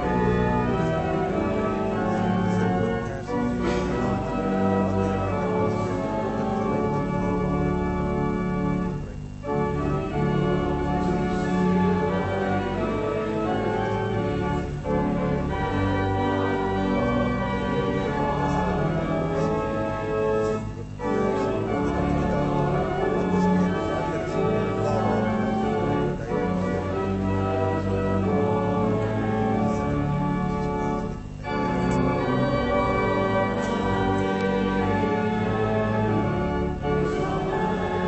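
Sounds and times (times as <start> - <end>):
church organ playing a hymn: 0.0 - 38.0.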